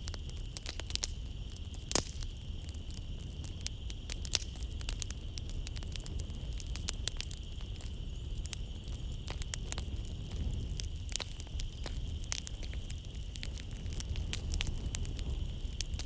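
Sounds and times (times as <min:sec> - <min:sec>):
night insects trilling: 0:00.0 - 0:16.0
wood fire crackling: 0:00.0 - 0:16.0.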